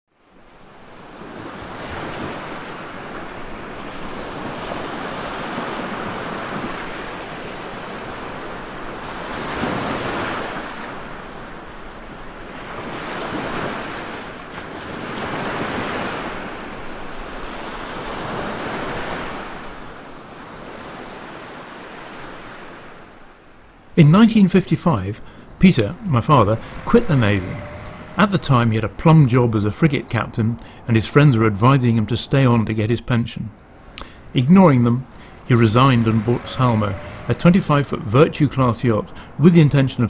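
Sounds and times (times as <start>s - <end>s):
ocean waves washing in: 0.2s - 40.0s.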